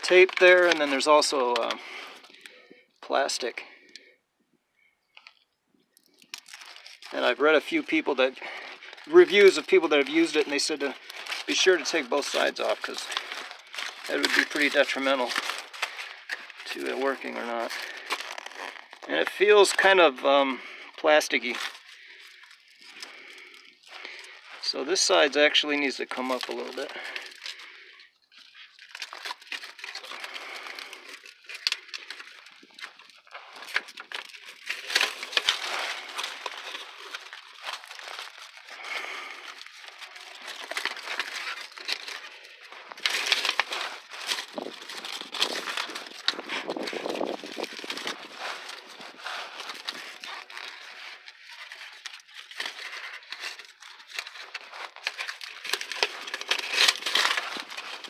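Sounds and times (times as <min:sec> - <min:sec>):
plastic film crinkling: 0:00.0 - 0:04.0, 0:05.1 - 0:58.0.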